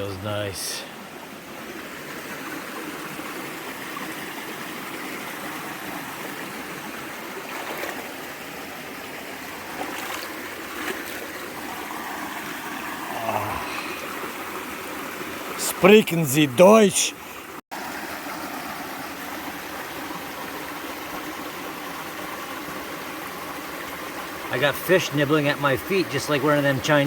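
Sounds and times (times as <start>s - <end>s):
stream water trickling: 0.0s - 27.0s.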